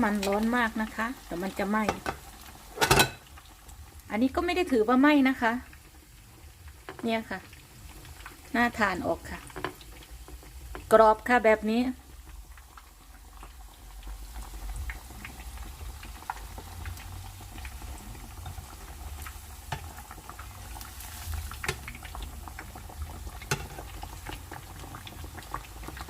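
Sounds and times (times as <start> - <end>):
frying crackles and pops: 0.0 - 26.0
oil bubbling: 0.0 - 26.0.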